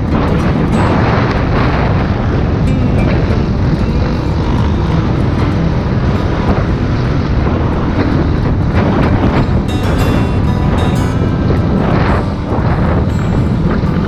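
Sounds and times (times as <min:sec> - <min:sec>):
dirt bike engine running: 0:00.0 - 0:14.0
wind rumble: 0:00.0 - 0:14.0.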